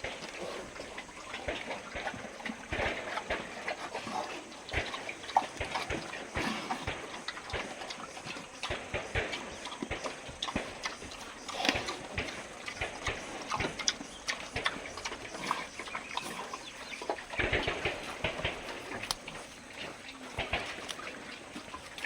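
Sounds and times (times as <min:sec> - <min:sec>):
livestock clicks and knocks: 0:00.0 - 0:22.0.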